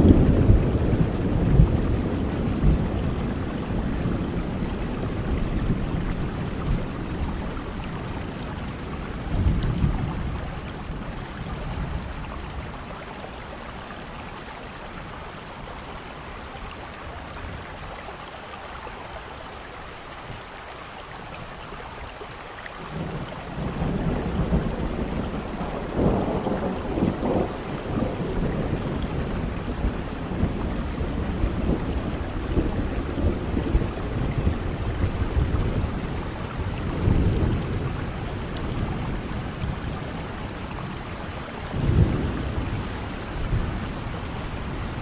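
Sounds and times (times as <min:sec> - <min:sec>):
thunder rumbling: 0:00.0 - 0:16.5, 0:22.8 - 0:45.0
steady rain: 0:00.0 - 0:45.0.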